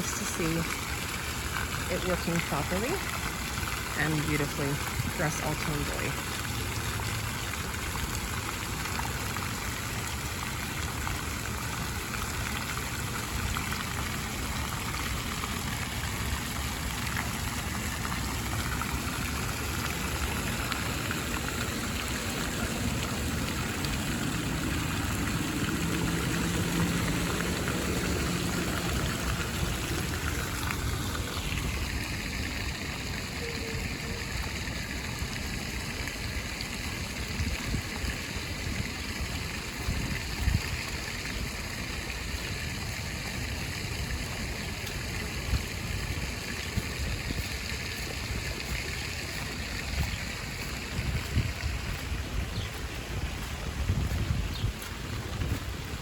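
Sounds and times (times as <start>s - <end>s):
fountain water splashing: 0.0s - 56.0s
rain: 0.0s - 56.0s.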